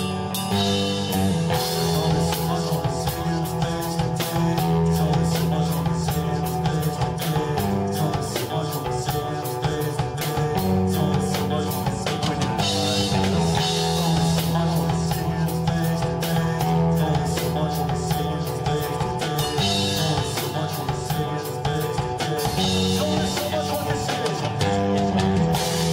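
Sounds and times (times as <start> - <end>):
drum kit steady beat: 0.0 - 25.9
guitar: 0.0 - 25.9
low bass line: 0.0 - 25.9.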